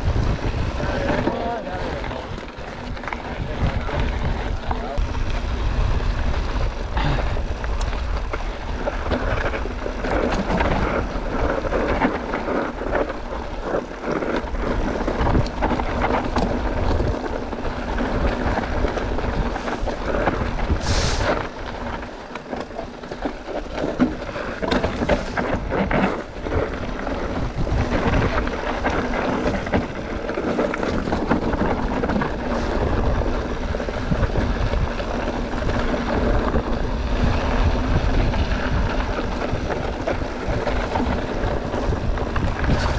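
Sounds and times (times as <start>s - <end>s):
bike rattling and knocking: 0.0s - 42.9s
wind buffeting microphone: 0.0s - 42.9s
tyres rolling over rock: 0.1s - 42.9s.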